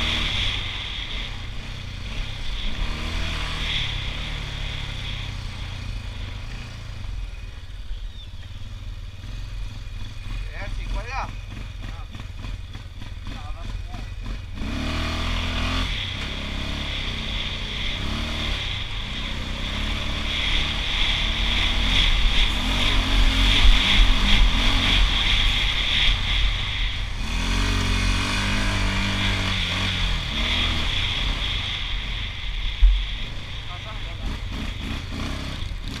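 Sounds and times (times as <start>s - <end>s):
high-pitched whine: 0.0s - 8.9s, 14.9s - 35.8s
atv engine revving: 0.0s - 36.0s.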